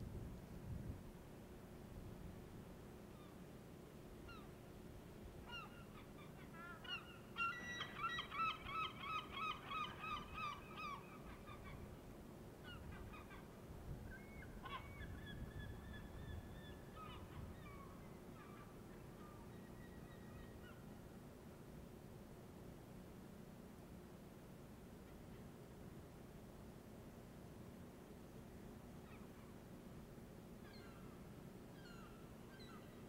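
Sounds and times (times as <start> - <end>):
low background hiss: 0.0 - 33.0.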